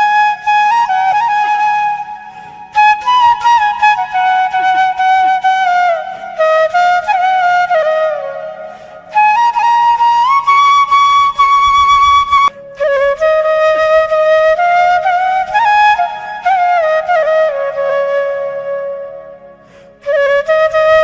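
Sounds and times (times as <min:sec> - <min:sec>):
flute playing slow melody: 0:00.0 - 0:21.0.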